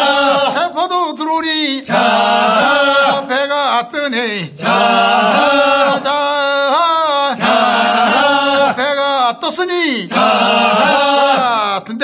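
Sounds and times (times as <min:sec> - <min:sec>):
men chanting a work song: 0:00.0 - 0:09.3, 0:10.0 - 0:11.8.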